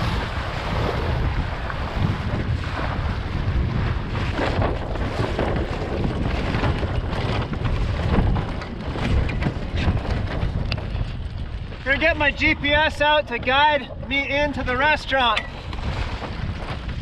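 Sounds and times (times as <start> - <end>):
waves splashing against hull: 0.0 - 17.0
wind on microphone: 0.0 - 17.0.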